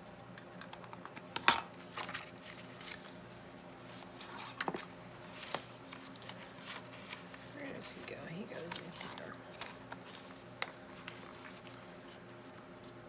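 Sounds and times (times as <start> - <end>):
paper rustling: 1.9 - 13.0.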